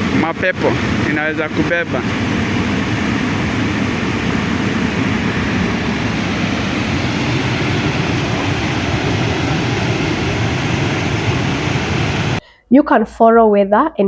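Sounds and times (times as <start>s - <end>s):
floodwater rushing: 0.0s - 12.4s.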